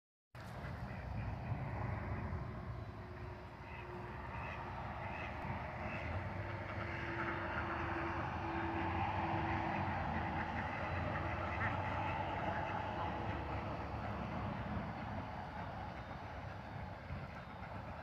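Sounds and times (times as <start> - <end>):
low outdoor rumble: 0.4 - 18.0.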